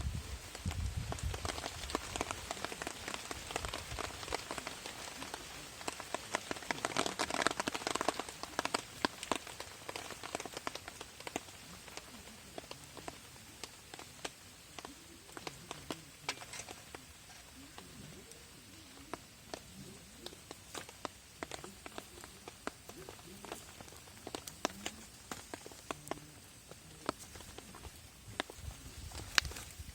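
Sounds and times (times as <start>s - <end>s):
rain pattering on a tarp: 0.0s - 29.9s.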